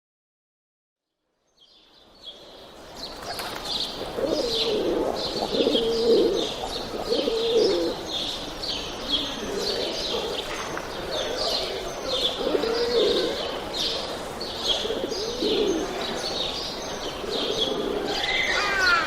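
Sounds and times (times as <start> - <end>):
small birds chirping: 1.5 - 19.0
pigeons cooing: 3.3 - 19.0.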